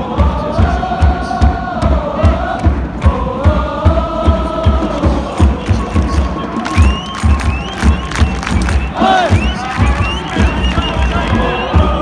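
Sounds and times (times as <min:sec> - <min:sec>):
bass drum beat: 0:00.0 - 0:12.0
football crowd chanting: 0:00.0 - 0:12.0.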